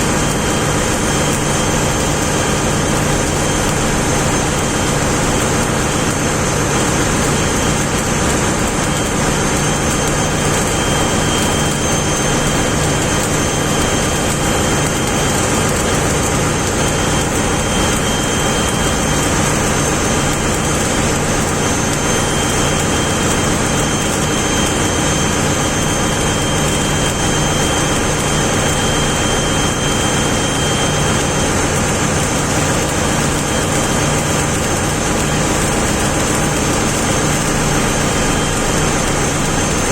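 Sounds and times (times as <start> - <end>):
machinery hum: 0.0 - 39.9.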